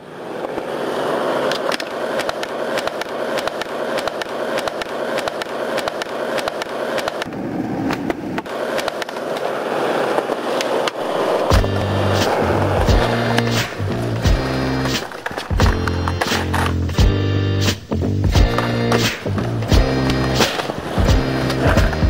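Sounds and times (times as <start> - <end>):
skateboard wheels rolling on concrete: 0.0 - 22.0
skateboards clacking on ground: 0.1 - 17.2, 18.4 - 22.0.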